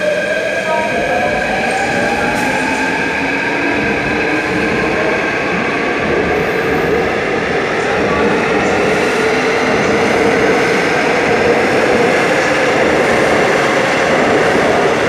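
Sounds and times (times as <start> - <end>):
electric train rolling past: 0.0 - 15.0.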